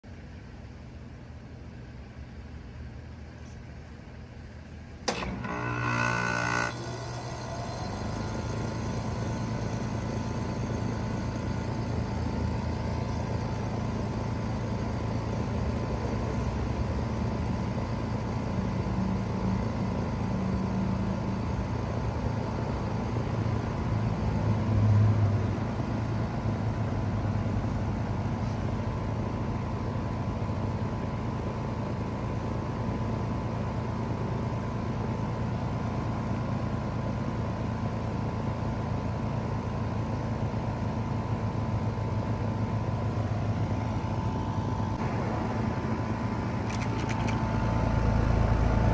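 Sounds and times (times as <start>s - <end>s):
heat pump humming: 0.1s - 48.9s.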